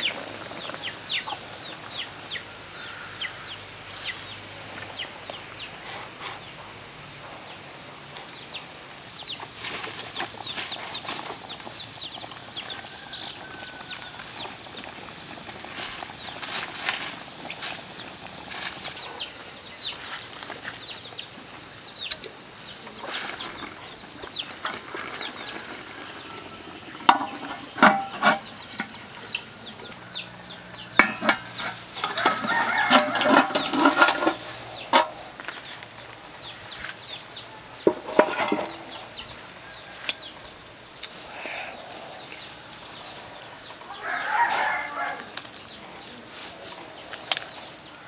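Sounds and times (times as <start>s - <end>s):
chicks peeping: 0.0s - 6.7s, 8.2s - 32.9s, 33.6s - 48.0s
chickens clucking: 0.0s - 7.6s, 8.2s - 48.0s.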